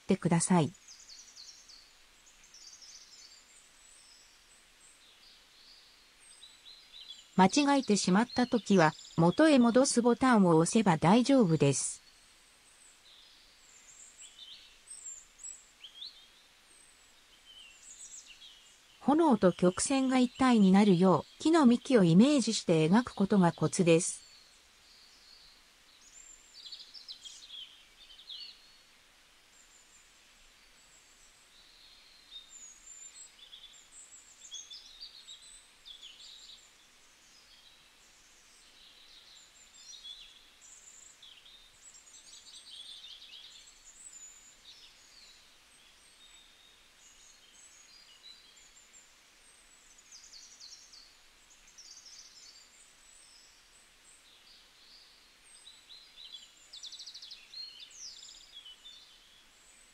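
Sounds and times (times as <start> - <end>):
small birds chirping: 0.0 - 59.9
soft steady hiss: 0.0 - 59.9.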